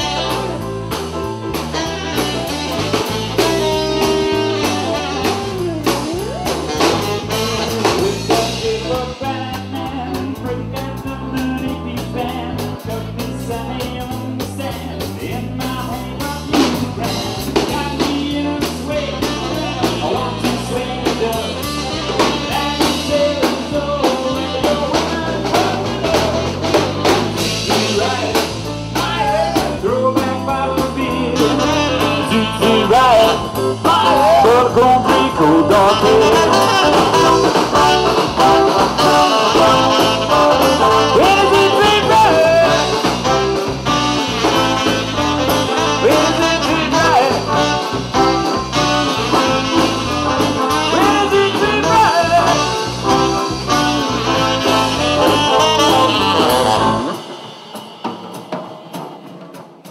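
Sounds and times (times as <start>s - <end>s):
man singing: 0.0s - 0.8s, 1.7s - 57.2s
swing band playing: 0.0s - 59.9s.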